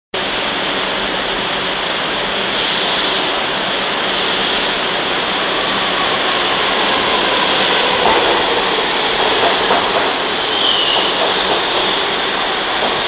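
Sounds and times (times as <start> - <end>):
subway train wheels roaring: 0.2 - 13.0.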